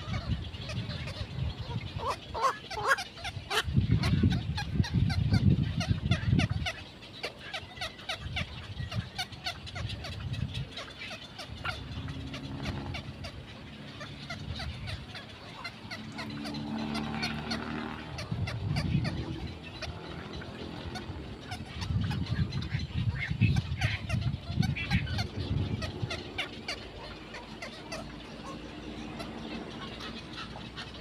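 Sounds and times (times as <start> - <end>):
birds chattering: 0.0 - 31.0.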